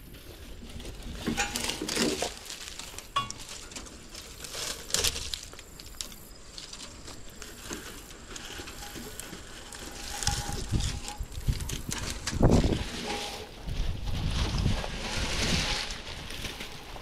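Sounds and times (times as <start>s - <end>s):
dry plant material crunching: 0.0s - 17.0s.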